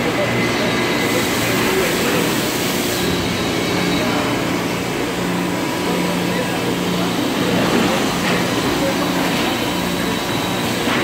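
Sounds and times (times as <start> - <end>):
industrial machinery running: 0.0 - 11.0.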